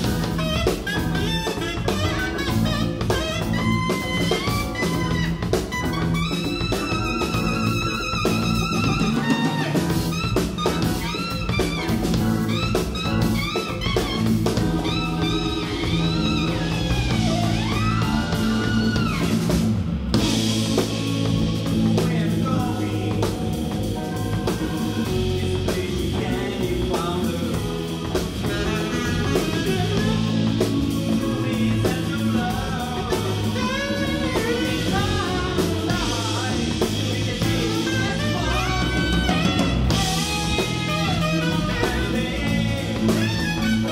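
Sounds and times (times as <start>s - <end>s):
live band playing: 0.0s - 43.9s
saxophone lead line: 0.0s - 43.9s.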